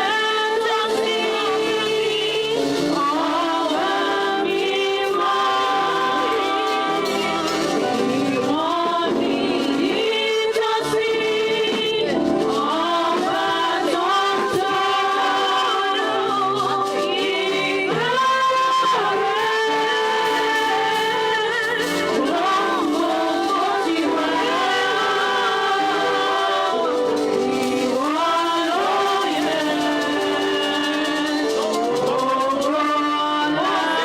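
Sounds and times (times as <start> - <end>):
choir singing with accompaniment: 0.0 - 34.0.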